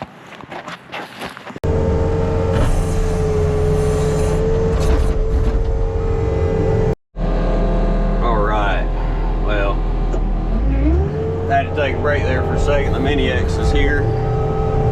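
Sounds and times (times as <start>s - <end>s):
diesel engine running at high revs: 1.6s - 14.9s.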